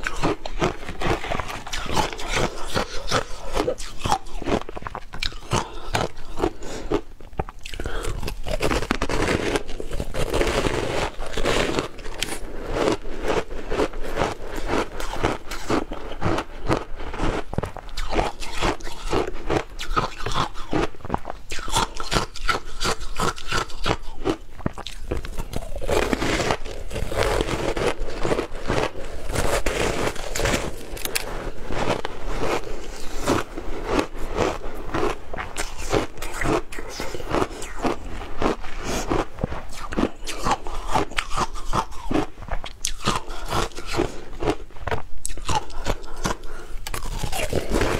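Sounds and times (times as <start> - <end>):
crunching ice: 0.0 - 47.9.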